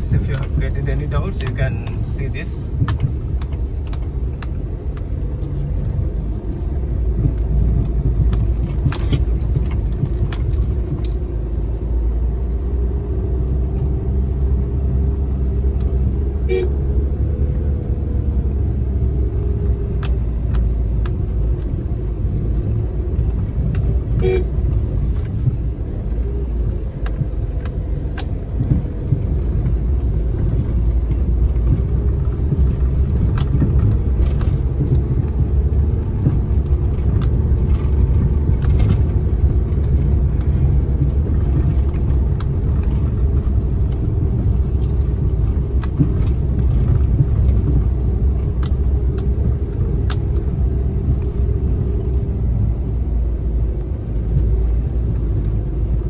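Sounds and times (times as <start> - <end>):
knocks and rattles over bumps: 0.0 - 12.8, 17.6 - 56.0
car rumbling on dirt track: 0.0 - 56.0.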